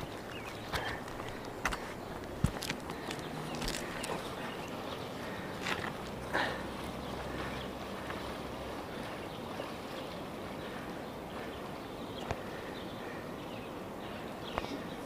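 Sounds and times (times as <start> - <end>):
water sloshing around legs: 0.0 - 13.2.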